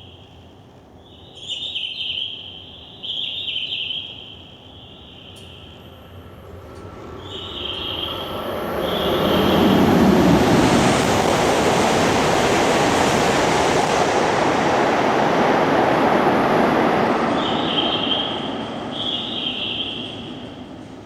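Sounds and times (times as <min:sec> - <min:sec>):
high-speed train rushing past: 0:00.4 - 0:21.0.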